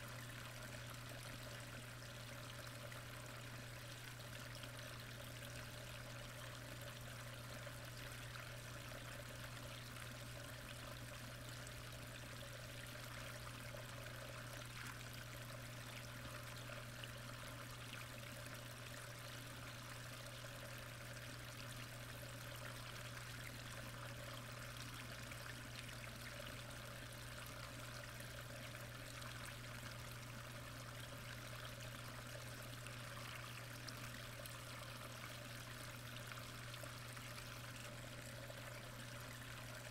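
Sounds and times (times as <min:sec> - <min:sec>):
constant low hum: 0:00.0 - 0:39.9.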